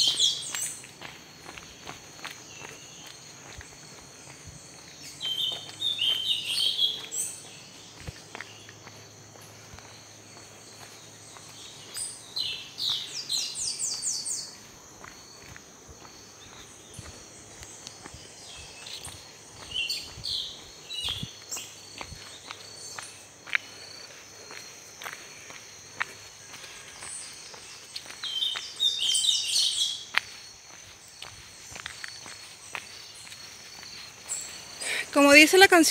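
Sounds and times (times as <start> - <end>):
birds calling: 0.0 - 3.3, 3.9 - 35.9
crickets droning: 0.0 - 35.9
faint footsteps on trail: 0.0 - 35.9.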